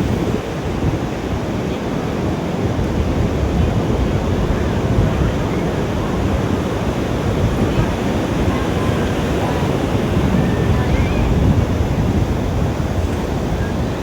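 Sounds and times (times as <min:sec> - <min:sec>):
ocean surf on sandy beach: 0:00.0 - 0:14.0
wind buffeting microphone: 0:00.0 - 0:14.0.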